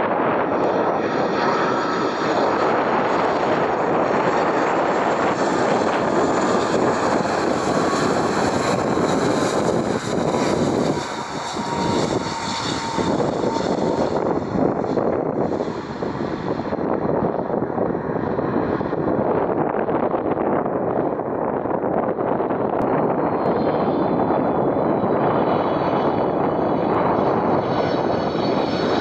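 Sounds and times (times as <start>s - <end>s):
faint jet engine whine: 0.0s - 29.0s
jet airliner engines roaring: 0.0s - 29.0s.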